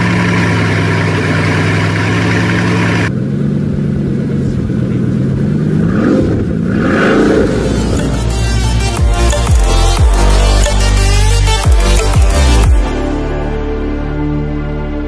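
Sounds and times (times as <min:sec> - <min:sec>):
car engine idling: 0:00.0 - 0:12.9
engine revving: 0:00.0 - 0:13.4.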